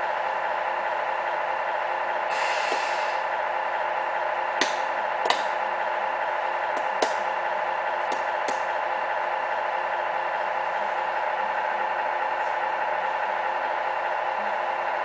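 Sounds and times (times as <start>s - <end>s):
electronic diesel engine hum: 0.0s - 15.0s.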